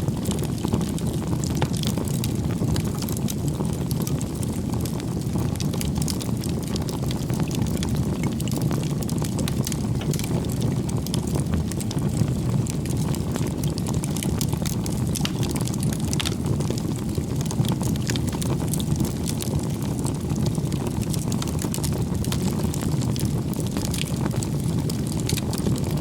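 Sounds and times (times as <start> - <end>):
campfire flames rushing: 0.0 - 26.0
logs crackling and popping: 0.0 - 26.0.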